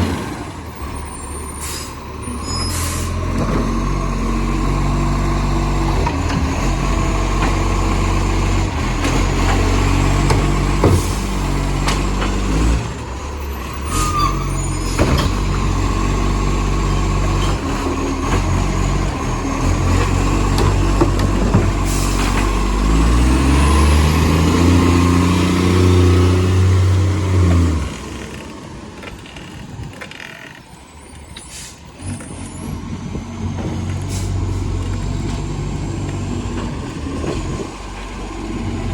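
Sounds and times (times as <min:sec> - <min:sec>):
truck diesel engine running: 0:00.0 - 0:29.8, 0:31.8 - 0:38.9.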